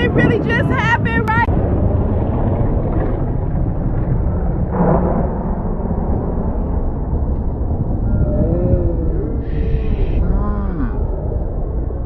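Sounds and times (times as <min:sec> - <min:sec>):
distant explosion rumble: 0:00.0 - 0:12.0.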